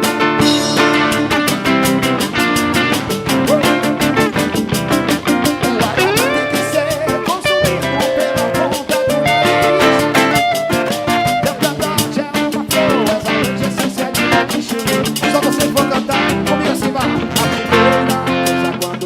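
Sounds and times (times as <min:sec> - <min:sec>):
live band with guitar and drums: 0:00.0 - 0:19.0.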